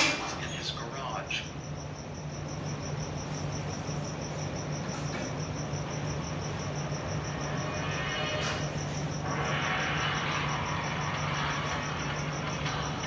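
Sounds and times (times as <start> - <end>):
insect chirping: 0.0 - 13.0
steady low hum: 0.0 - 13.0.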